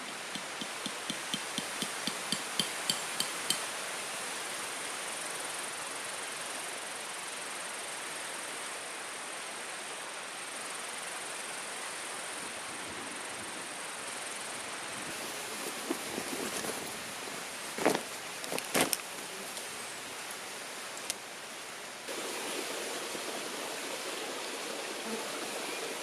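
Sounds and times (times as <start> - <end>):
forest ambience hiss: 0.0 - 26.0
high insect drone: 0.0 - 26.0.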